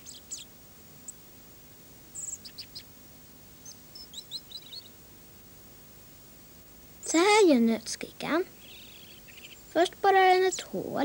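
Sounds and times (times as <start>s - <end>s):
small birds chirping: 0.0s - 5.6s, 6.2s - 11.0s.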